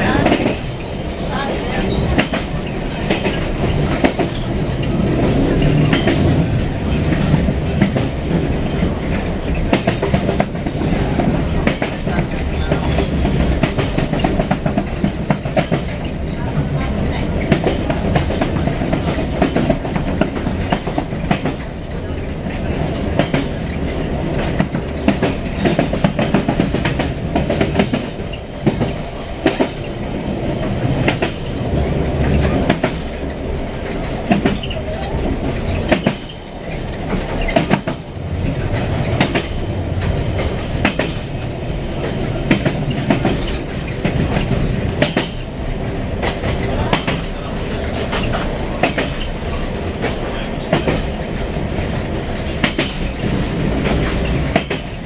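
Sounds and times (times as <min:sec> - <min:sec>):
train bogies rumbling: 0:00.0 - 0:55.0
wheels clacking over rail joints: 0:00.0 - 0:55.0.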